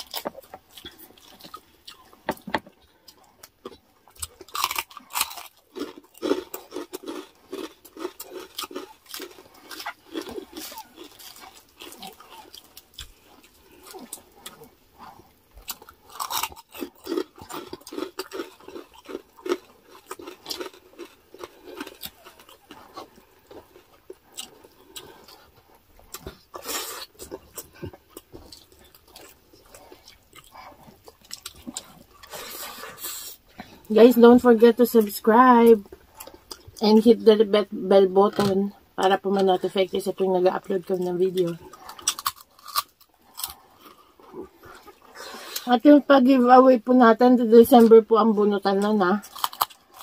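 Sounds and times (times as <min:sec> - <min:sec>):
people chewing crispy food: 0:00.0 - 0:37.1, 0:38.2 - 0:46.4, 0:48.7 - 0:50.0.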